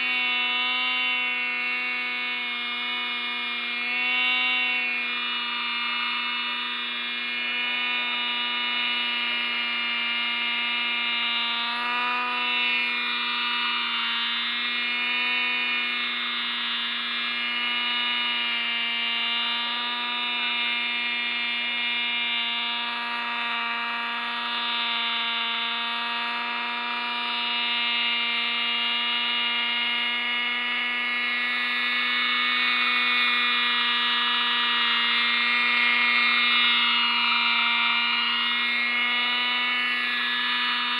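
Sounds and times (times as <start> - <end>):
model helicopter engine buzzing: 0.0 - 40.9.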